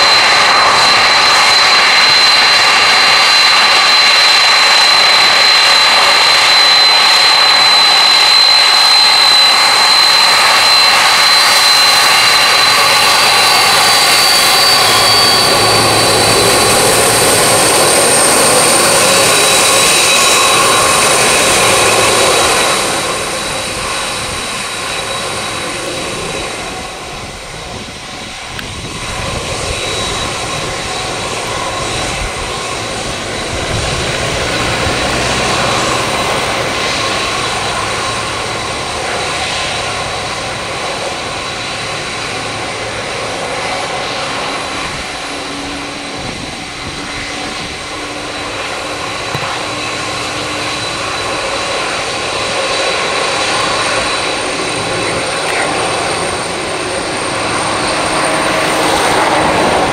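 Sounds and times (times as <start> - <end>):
jet engines whining at taxi: 0.0 - 59.9.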